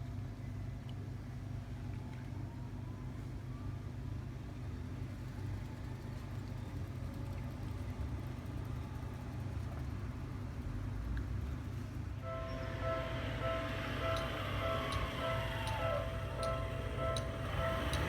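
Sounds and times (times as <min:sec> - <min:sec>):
low engine rumble: 0:00.3 - 0:18.0.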